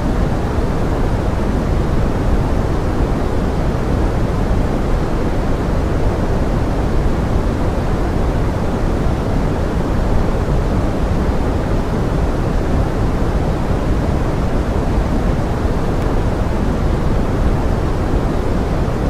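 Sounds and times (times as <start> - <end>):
pink noise hiss: 0.0 - 19.0.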